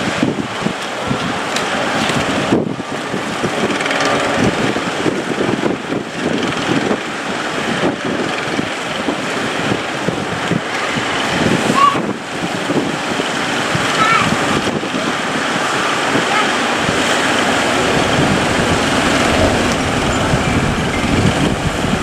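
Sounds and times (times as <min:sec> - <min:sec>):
boat engine running: 0:00.0 - 0:22.0
waves washing: 0:00.0 - 0:22.0
wind buffeting microphone: 0:00.0 - 0:22.0.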